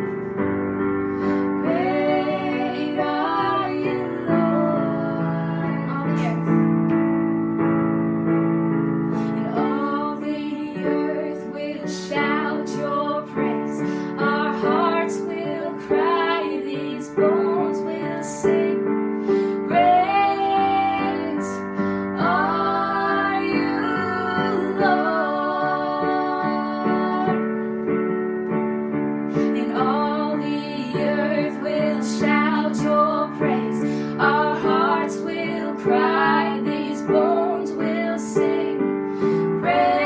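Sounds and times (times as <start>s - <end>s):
piano accompaniment: 0.0s - 40.0s
woman singing slow song: 1.5s - 6.7s, 9.4s - 27.4s, 29.4s - 40.0s.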